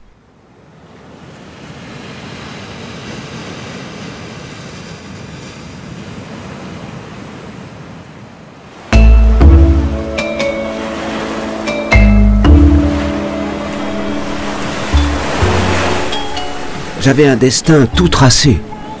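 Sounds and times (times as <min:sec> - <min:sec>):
sea surf washing: 0:00.0 - 0:19.0.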